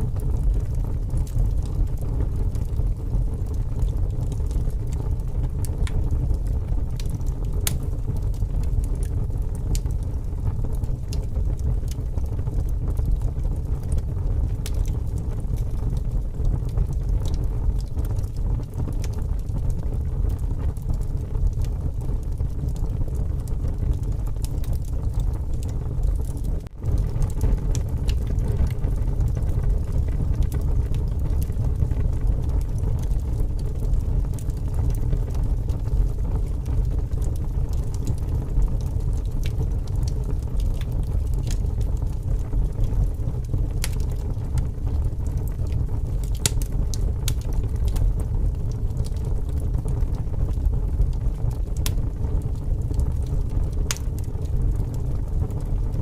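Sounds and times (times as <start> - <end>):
strong wind rumble: 0.0 - 56.0
wood fire crackling and popping: 0.0 - 56.0.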